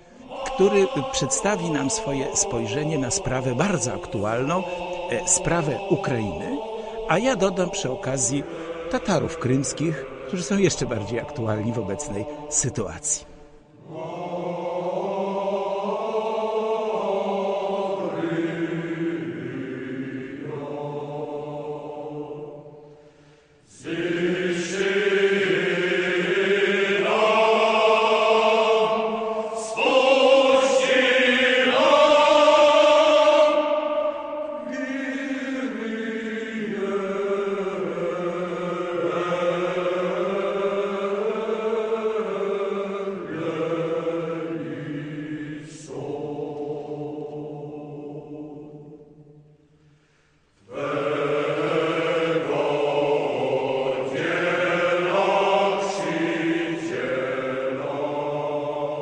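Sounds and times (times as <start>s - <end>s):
choir chanting held notes: 0.0s - 49.5s, 50.6s - 59.0s.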